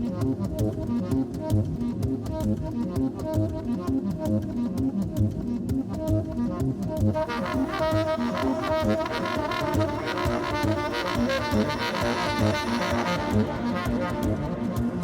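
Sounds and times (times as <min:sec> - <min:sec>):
electronic music with low pulse: 0:00.0 - 0:15.0.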